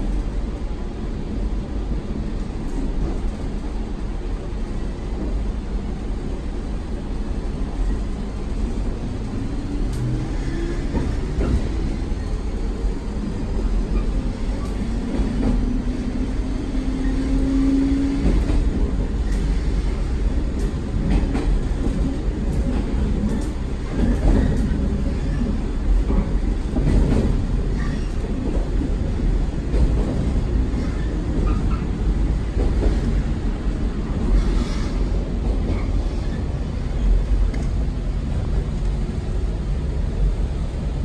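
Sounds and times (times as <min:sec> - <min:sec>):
train rumbling on track: 0:00.0 - 0:41.0.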